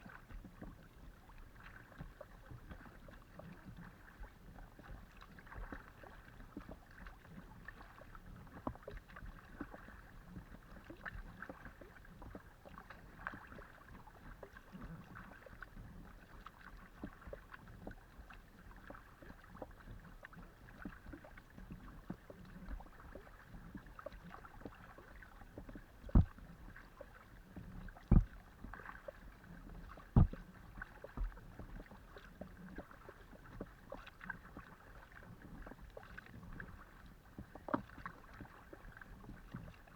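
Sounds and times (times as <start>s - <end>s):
paddle splashing and dripping water: 0.0s - 39.9s.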